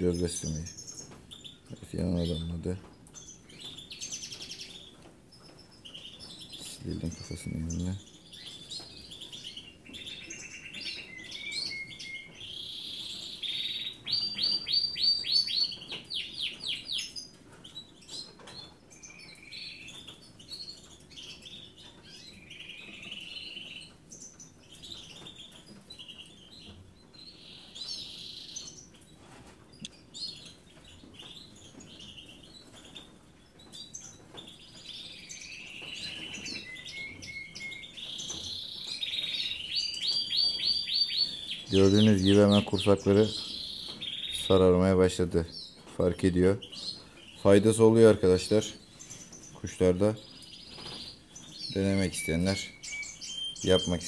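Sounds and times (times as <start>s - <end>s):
nestlings begging chirps: 0.0s - 54.0s.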